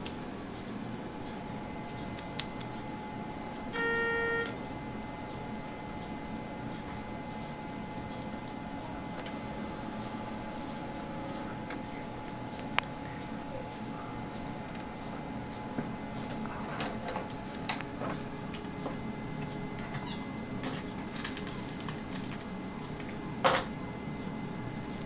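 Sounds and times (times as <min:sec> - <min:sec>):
hospital equipment hum: 0:00.0 - 0:25.0.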